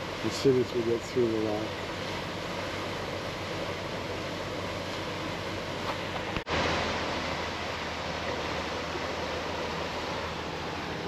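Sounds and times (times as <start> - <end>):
wind and water rushing: 0.0 - 11.0.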